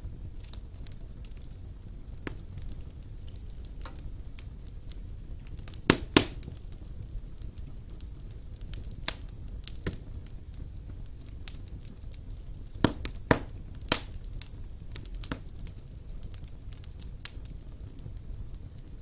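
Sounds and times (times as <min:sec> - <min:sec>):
burning logs crackling and popping: 0:00.0 - 0:19.0
low rumble of flames: 0:00.0 - 0:19.0.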